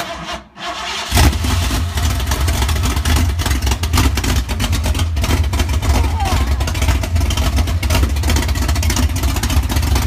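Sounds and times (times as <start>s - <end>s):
engine cranking and firing: 0.0s - 10.0s
engine idling with choppy lope: 1.4s - 10.0s.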